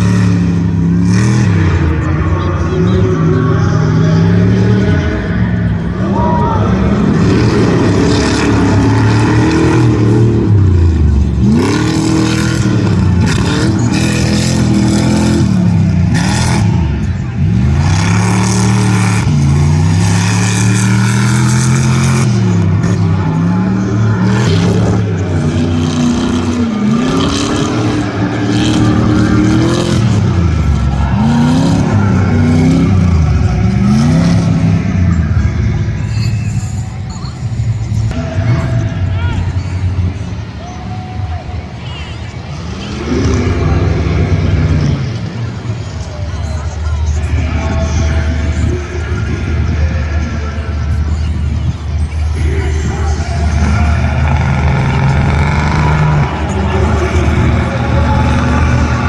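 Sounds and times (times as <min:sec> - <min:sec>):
racing engines revving: 0:00.0 - 0:59.0.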